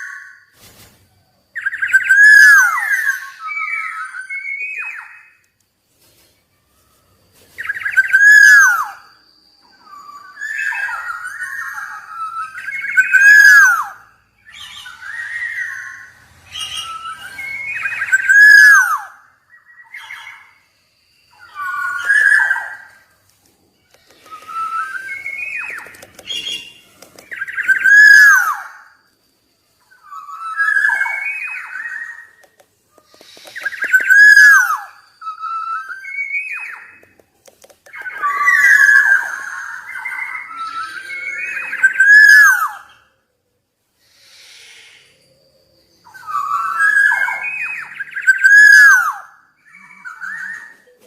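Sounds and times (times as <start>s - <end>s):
oriole singing fluty whistles: 1.5s - 5.6s, 7.6s - 23.2s, 23.9s - 29.2s, 29.8s - 37.2s, 37.9s - 43.3s, 44.0s - 51.0s.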